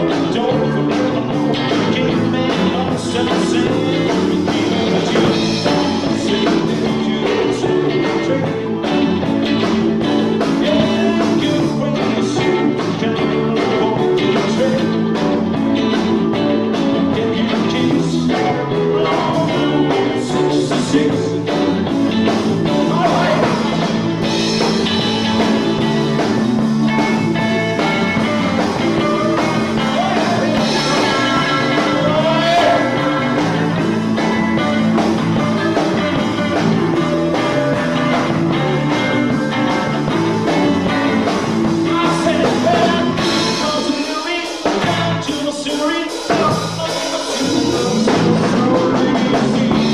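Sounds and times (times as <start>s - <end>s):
person singing: 0.0s - 49.9s
rock guitar: 0.0s - 49.9s.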